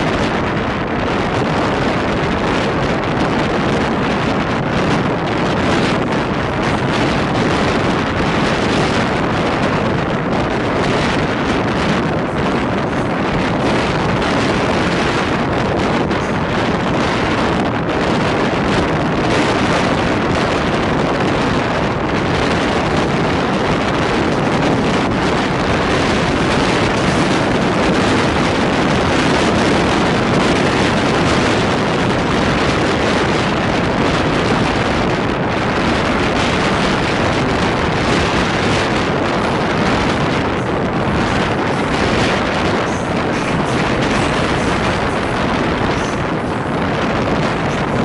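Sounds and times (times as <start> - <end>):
train running at speed: 0.0 - 48.0
wind buffeting microphone: 0.0 - 48.0.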